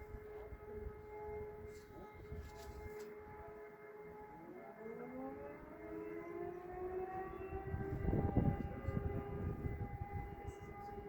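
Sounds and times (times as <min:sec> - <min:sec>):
motor siren steady pitch: 0:00.0 - 0:11.0
motor siren spinning up: 0:00.6 - 0:11.0.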